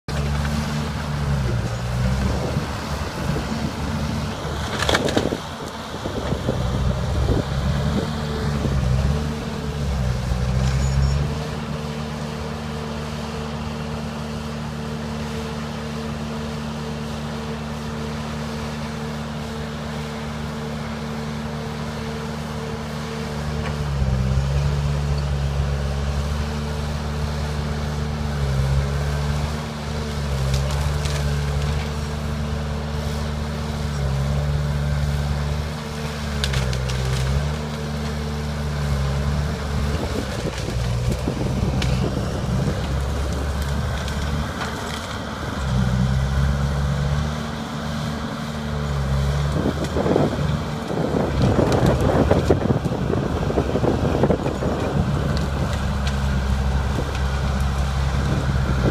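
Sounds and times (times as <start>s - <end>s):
diesel dozer engine working: 0.0s - 58.9s
branches crackling and snapping: 0.1s - 12.4s, 22.8s - 58.9s.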